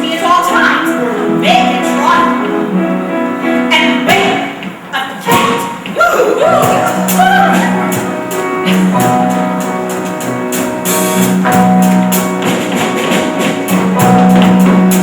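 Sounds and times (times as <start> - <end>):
musical instrumental accompaniment: 0.0 - 15.0.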